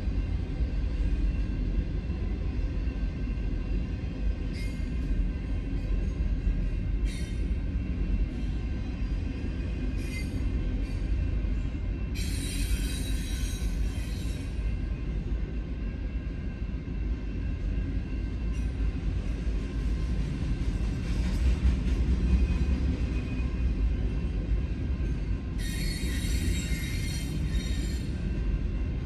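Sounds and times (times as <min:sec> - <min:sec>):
freight train rumbling on rails: 0:00.0 - 0:29.0
train wheel squeal: 0:04.3 - 0:19.0, 0:20.0 - 0:29.0.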